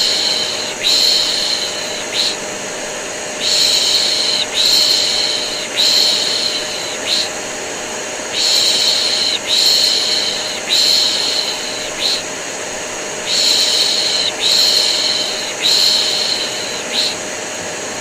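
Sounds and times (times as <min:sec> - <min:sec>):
vacuum cleaner whirring: 0:00.0 - 0:18.0.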